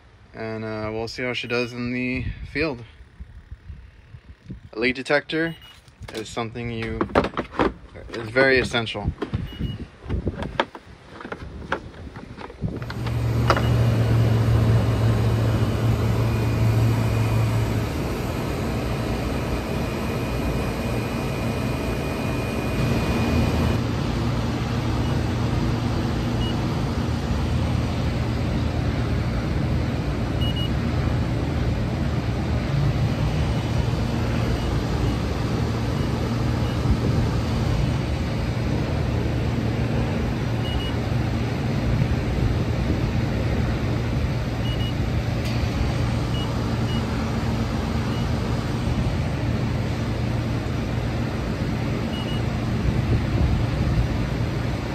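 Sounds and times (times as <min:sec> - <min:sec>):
air conditioning hum: 0:00.0 - 0:54.9.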